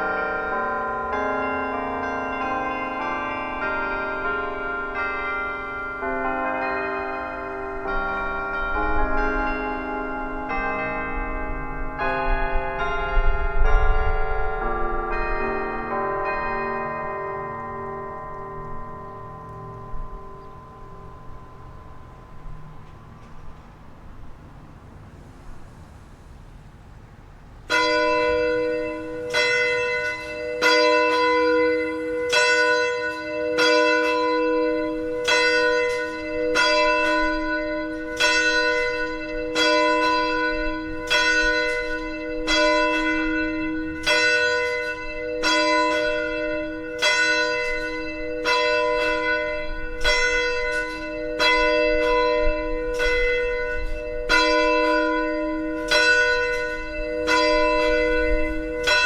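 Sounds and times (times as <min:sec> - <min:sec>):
bells chiming: 0:00.0 - 0:24.4, 0:27.7 - 0:59.0.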